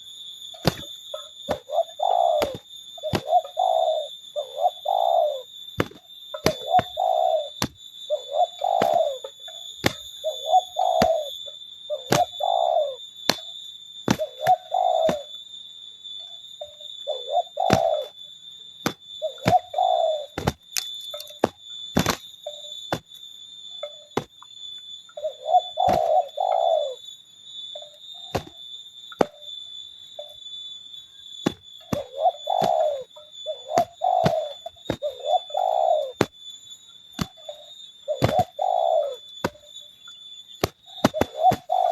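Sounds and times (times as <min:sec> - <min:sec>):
doves cooing: 0:00.0 - 0:15.4, 0:16.2 - 0:23.2, 0:25.1 - 0:29.6, 0:31.4 - 0:36.4, 0:37.1 - 0:41.9.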